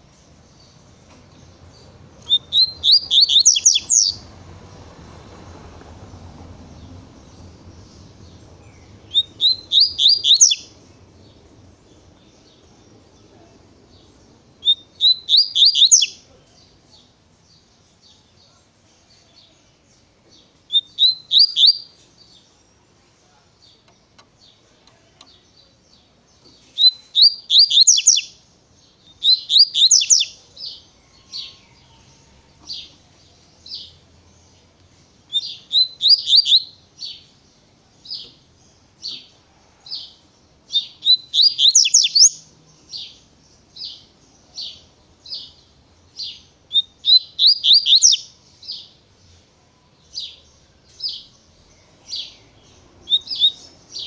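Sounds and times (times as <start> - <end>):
bird singing trilled phrases: 0.0 - 4.3, 6.7 - 31.7, 33.6 - 39.3, 40.7 - 49.0, 50.2 - 54.0.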